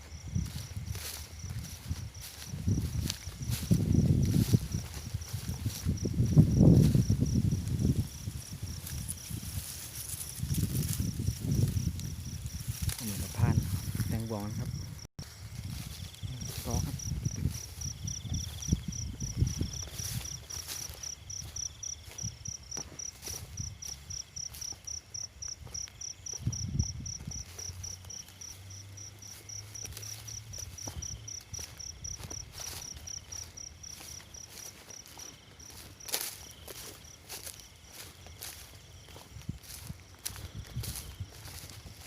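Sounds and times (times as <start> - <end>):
insect chirping: 0.0 - 42.0.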